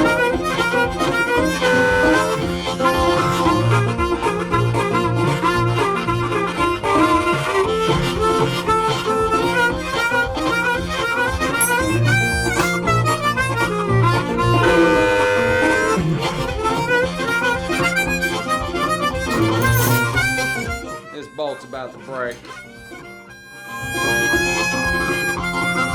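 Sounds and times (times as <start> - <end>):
blues music with harmonica: 0.0 - 25.9.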